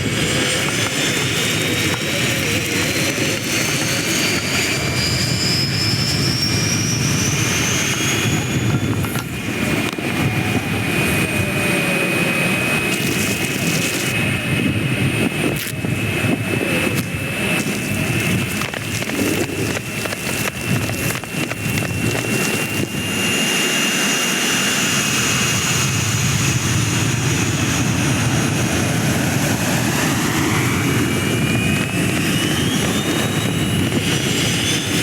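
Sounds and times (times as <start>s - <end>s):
jet engines rumbling: 0.0s - 35.0s
rising turbine whine: 0.0s - 35.0s
steady turbine whine: 0.0s - 35.0s.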